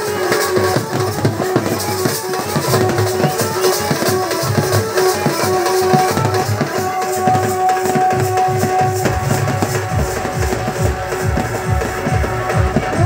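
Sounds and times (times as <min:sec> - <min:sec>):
drum beaten with sticks: 0:00.0 - 0:13.0
melody of long held notes: 0:00.0 - 0:13.0.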